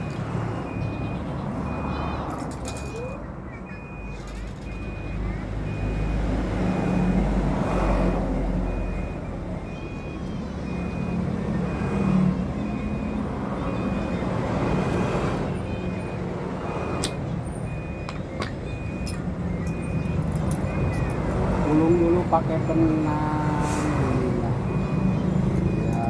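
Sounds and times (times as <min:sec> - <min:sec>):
reversing alarm beeping: 0:00.0 - 0:26.0
vehicle engine low rumble: 0:00.0 - 0:26.0.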